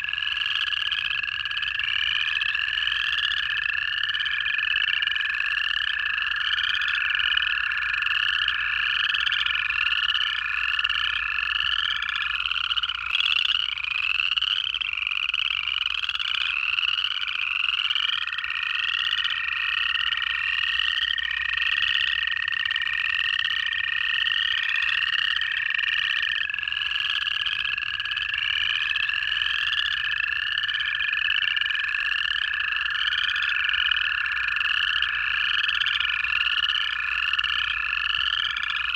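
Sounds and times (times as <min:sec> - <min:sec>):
chorus frogs ascending trills: 0:00.0 - 0:38.9
toads long steady trills: 0:00.0 - 0:38.9.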